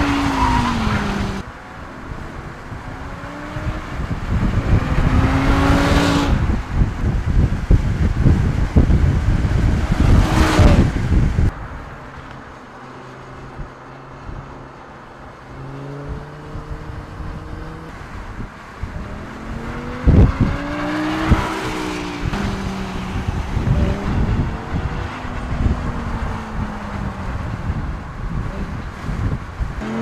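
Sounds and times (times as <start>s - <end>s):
car passing close: 0.0s - 30.0s
race car engine: 0.0s - 30.0s.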